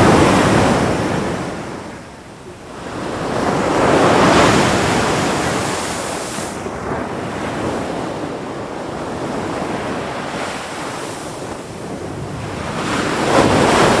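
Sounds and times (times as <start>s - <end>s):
ocean waves washing on shore: 0.0s - 14.0s.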